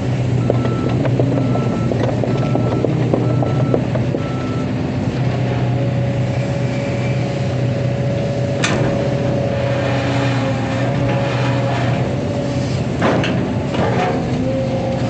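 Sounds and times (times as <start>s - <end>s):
diesel engine running: 0.0s - 15.0s
steady engine whine: 0.0s - 15.0s.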